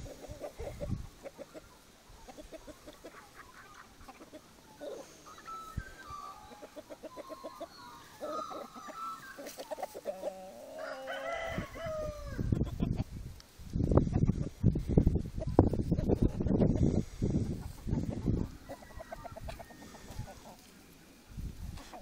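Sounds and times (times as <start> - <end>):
chicken calls: 0.0 - 13.2, 14.0 - 22.0
chickens clucking: 0.0 - 22.0.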